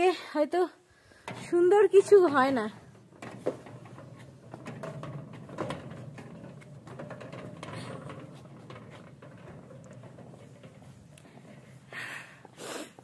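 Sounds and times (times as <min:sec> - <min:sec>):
light clicks and knocks: 0:01.2 - 0:12.5
prayer wheels rumbling: 0:01.3 - 0:12.5.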